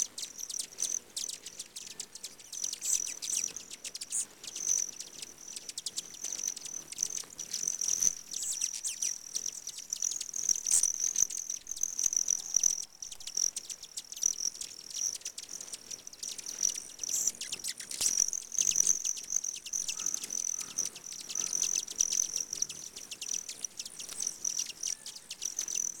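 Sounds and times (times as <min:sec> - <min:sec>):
hummingbirds chipping and twittering: 0:00.1 - 0:26.0.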